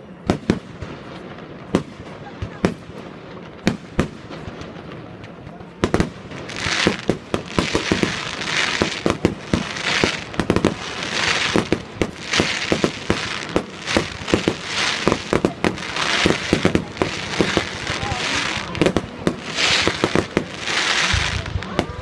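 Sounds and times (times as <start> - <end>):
fireworks bangs: 0.0 - 22.0
fireworks crackling hiss: 0.3 - 22.0.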